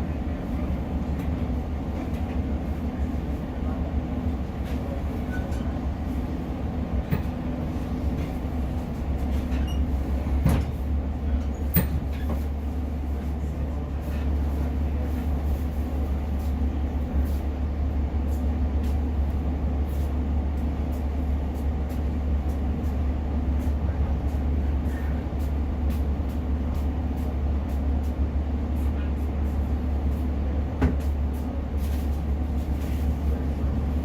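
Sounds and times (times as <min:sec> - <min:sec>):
train running rumble: 0:00.0 - 0:34.0.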